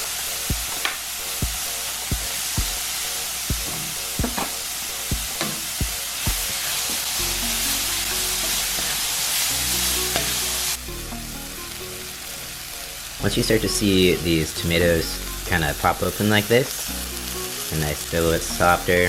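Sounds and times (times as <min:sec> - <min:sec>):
food sizzling in a frying pan: 0:00.0 - 0:15.0, 0:15.8 - 0:18.8.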